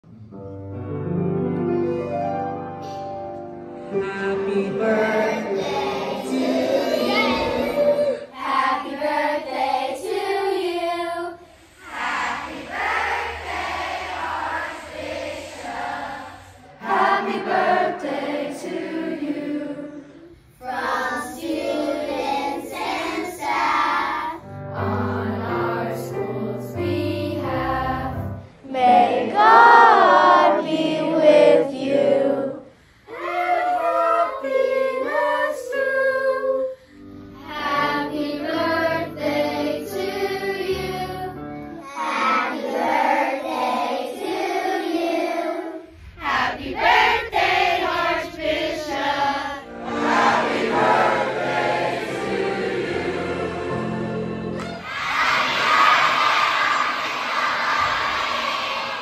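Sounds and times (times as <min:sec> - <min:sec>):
children singing together: 0:04.3 - 0:59.0.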